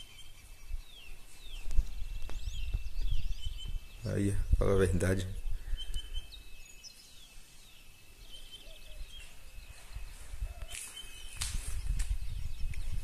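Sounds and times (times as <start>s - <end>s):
wind rumble on microphone: 0.0s - 6.9s, 8.7s - 13.0s
faint bird chirps: 0.0s - 13.0s.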